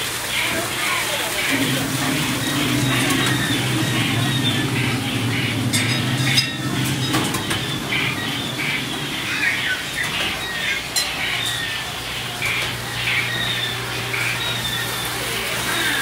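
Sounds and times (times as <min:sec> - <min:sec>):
low steady hum: 0:01.4 - 0:15.6.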